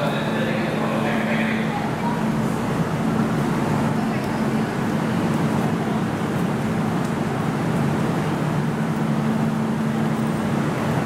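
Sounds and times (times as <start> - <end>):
constant low hum: 0.0 - 11.0
train wheels rumbling on rail: 0.0 - 11.0.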